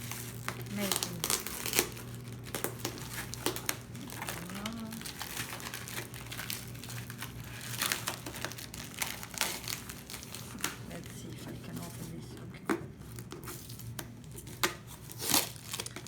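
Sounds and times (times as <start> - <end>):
tape and packaging crinkling: 0.0 - 16.0.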